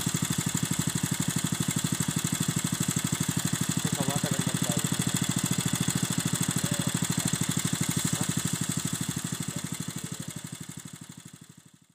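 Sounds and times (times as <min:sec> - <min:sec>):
small water pump engine running: 0:00.0 - 0:11.9.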